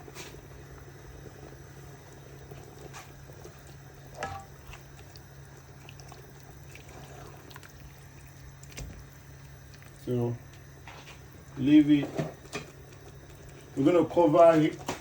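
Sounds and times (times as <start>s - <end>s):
steady low hum: 0.0s - 14.9s
soup bubbling in a pot: 0.0s - 15.0s.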